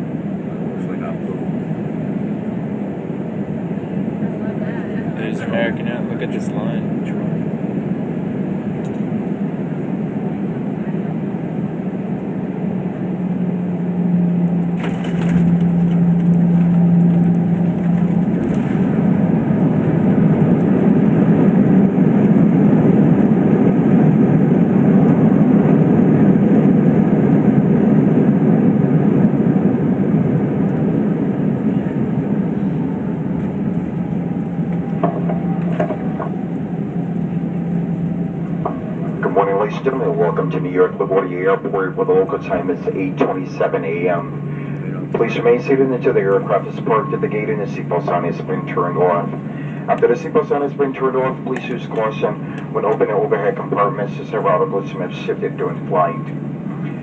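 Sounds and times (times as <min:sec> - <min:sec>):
airplane cabin rumble: 0:00.0 - 0:57.0
jet engine roar: 0:00.0 - 0:57.0.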